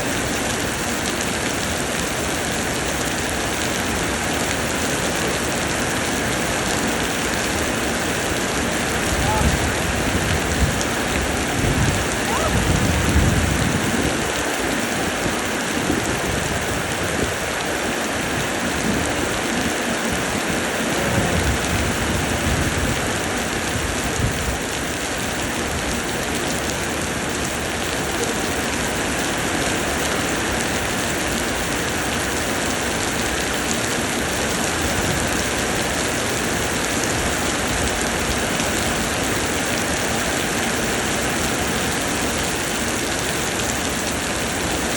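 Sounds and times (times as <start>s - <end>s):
rain pouring down: 0.0s - 44.9s.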